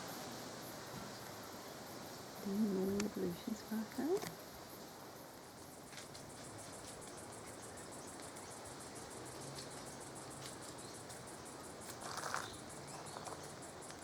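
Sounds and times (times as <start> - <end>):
insects chirping: 0.0 - 14.0
steady outdoor hiss: 0.0 - 14.0.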